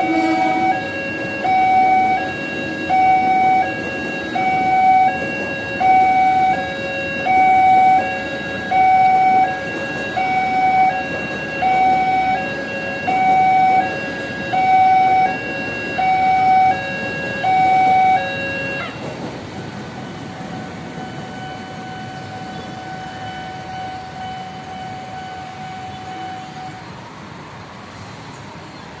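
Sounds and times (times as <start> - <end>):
level crossing alarm two-tone: 0.0 - 19.0, 20.0 - 26.8
road traffic: 0.0 - 29.0.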